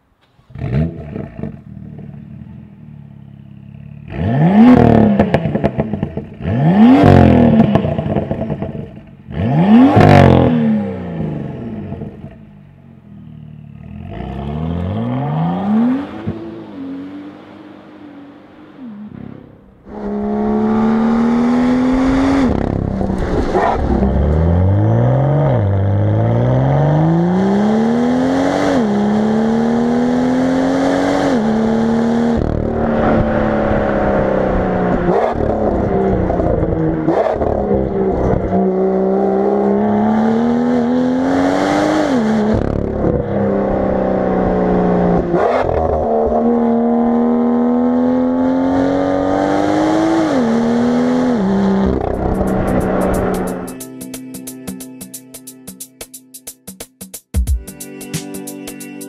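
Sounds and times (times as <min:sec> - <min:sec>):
car engine revving through gears: 0:00.2 - 0:02.4, 0:03.9 - 0:12.5, 0:13.2 - 0:53.8.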